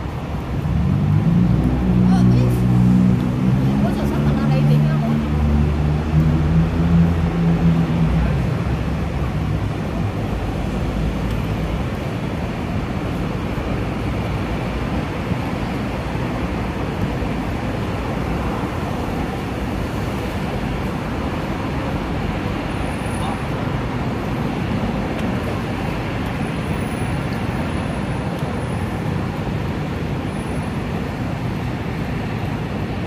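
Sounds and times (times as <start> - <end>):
city traffic noise: 0.0 - 33.0.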